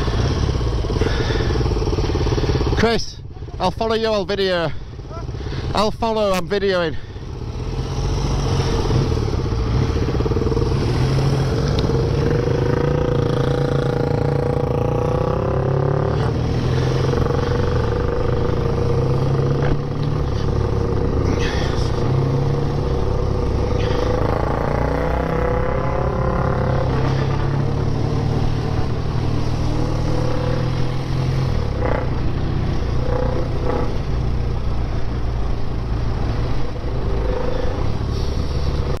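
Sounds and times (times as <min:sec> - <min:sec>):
motorcycle engine accelerating: 0:00.0 - 0:02.8, 0:07.0 - 0:39.0.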